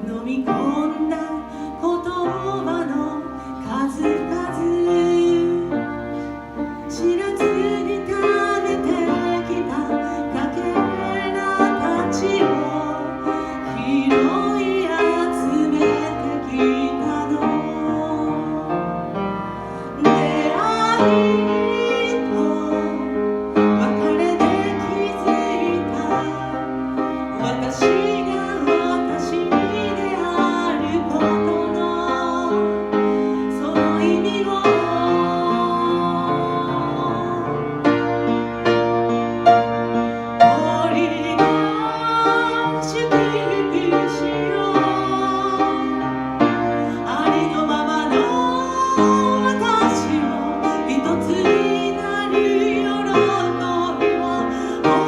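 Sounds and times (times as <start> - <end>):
woman singing a slow ballad: 0.0 - 19.0, 19.7 - 37.8, 40.4 - 55.0
piano: 0.0 - 55.0.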